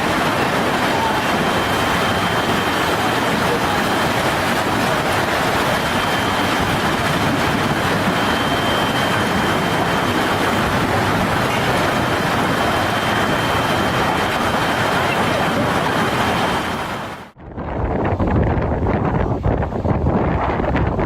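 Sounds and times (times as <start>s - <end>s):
faint high whine: 0.0s - 17.4s
heavy rain: 0.0s - 17.4s
wind rushing: 0.0s - 21.0s.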